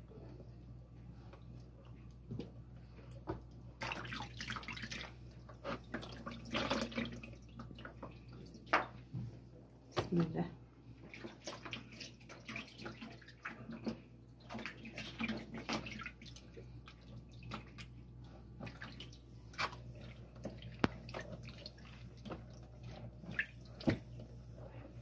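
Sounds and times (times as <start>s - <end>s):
low steady hum: 0.0s - 25.0s
wet squishing and splashing: 1.4s - 9.1s, 11.0s - 25.0s.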